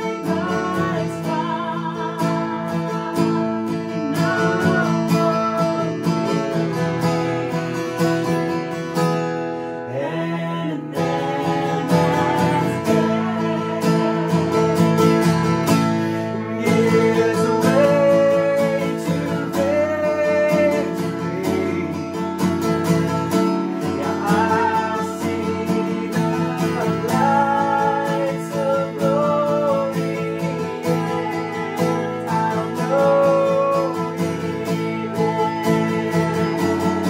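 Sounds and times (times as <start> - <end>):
woman and man singing a hymn: 0.0 - 6.8, 9.8 - 22.7, 23.7 - 37.0
acoustic guitar strumming: 0.0 - 37.0.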